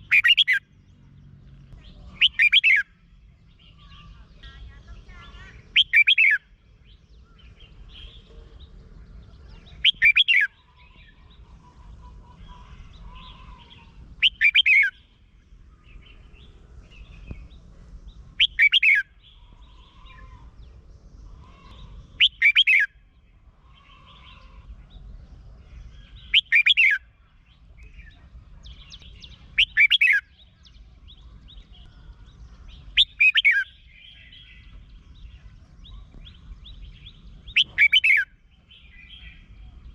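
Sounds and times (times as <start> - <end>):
soft bird chirps: 0.0 - 39.9.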